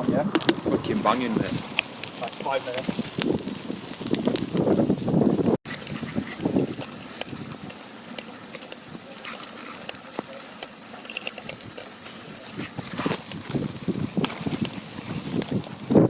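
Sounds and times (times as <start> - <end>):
barbecue grill sizzling: 0.0 - 16.0.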